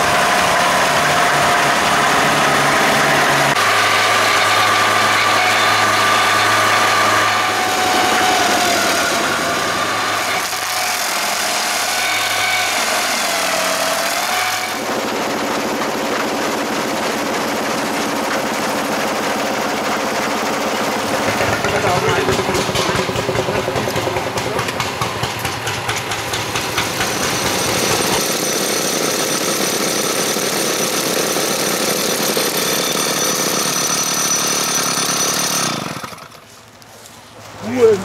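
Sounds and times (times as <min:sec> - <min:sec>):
stump grinder engine: 0:00.0 - 0:36.8
brush chipper running: 0:00.0 - 0:38.0.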